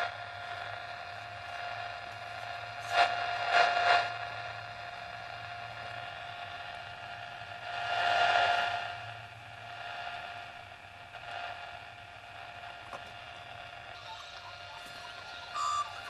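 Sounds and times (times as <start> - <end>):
radio hiss: 0.0 - 8.8, 11.0 - 16.0
steady buzzing tone: 0.0 - 16.0.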